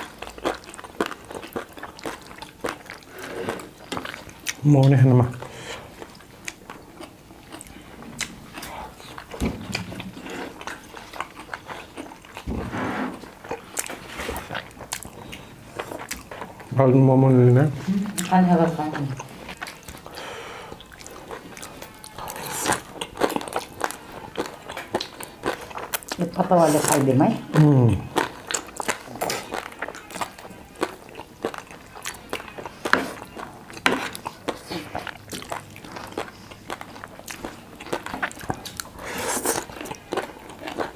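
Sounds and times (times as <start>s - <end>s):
chewing: 0.0s - 16.8s, 18.0s - 40.9s.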